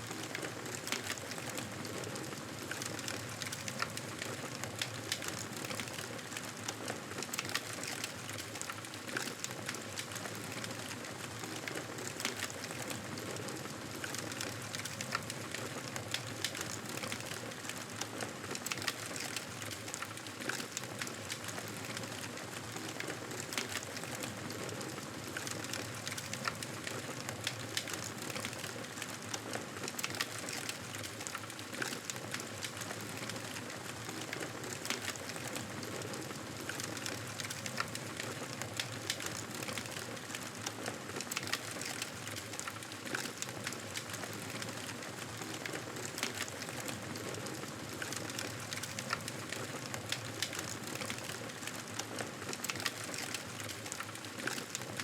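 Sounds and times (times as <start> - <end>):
hiss with small crackles: 0.0 - 55.0.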